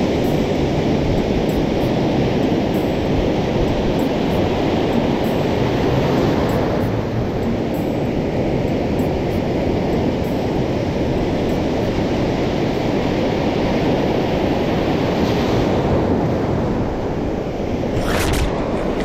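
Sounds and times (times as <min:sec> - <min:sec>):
surf on beach: 0:00.0 - 0:19.0
wind on microphone: 0:00.0 - 0:19.0.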